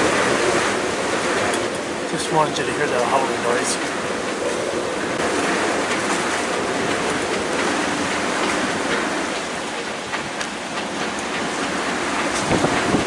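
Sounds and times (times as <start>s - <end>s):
wind howling through rigging: 0.0s - 13.0s.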